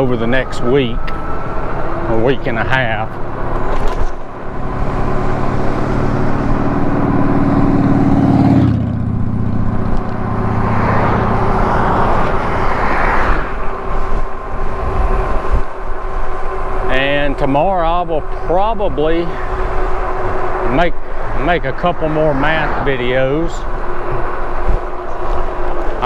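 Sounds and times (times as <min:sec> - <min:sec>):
low wind rumble: 0:00.0 - 0:26.0
passing vehicle tyre rush: 0:00.0 - 0:26.0
vehicle engine humming: 0:00.0 - 0:26.0.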